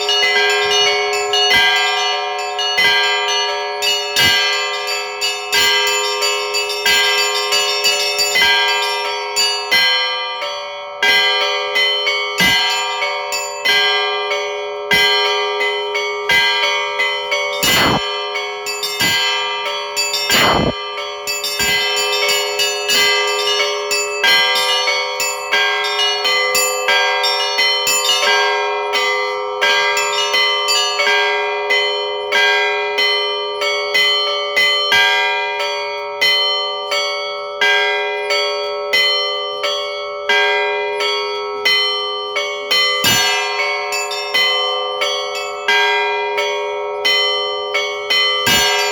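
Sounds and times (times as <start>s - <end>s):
large church bells ringing: 0.0s - 48.9s
small church bells striking: 0.0s - 48.9s.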